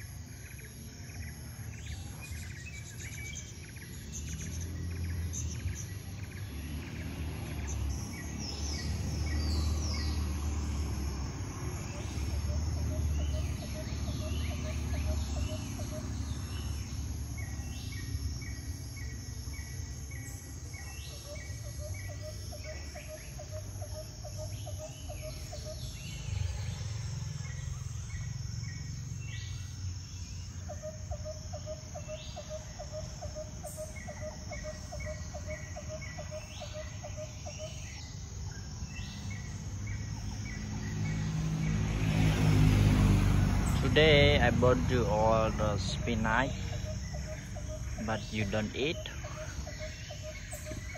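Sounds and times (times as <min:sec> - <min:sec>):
birds calling: 0:00.0 - 0:50.9
low rapid bird trill: 0:00.0 - 0:50.9.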